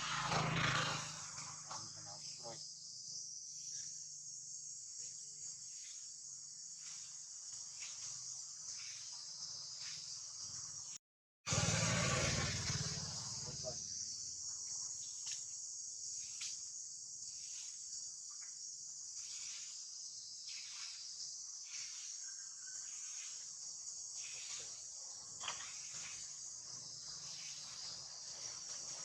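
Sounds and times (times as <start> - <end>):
high-pitched insect chorus: 0.1 - 11.0, 11.6 - 29.0.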